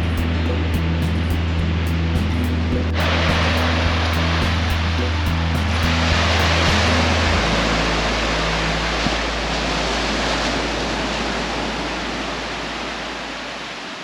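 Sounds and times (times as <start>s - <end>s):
surf rushing on beach: 0.0s - 14.0s.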